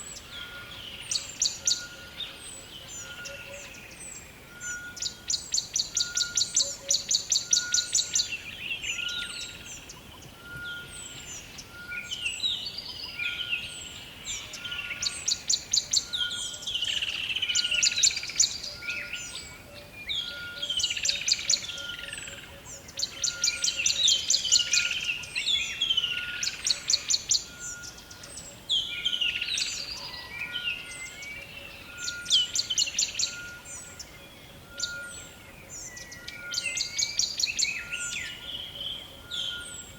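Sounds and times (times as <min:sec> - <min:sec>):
swooping whistled bird calls: 0:00.0 - 0:39.9.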